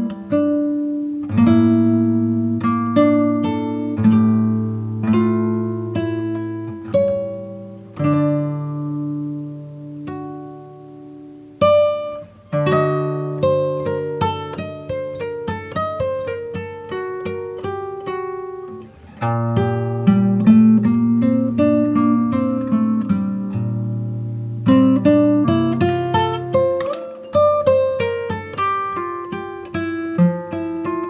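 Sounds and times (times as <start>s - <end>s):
plucked guitar music: 0.0s - 31.0s.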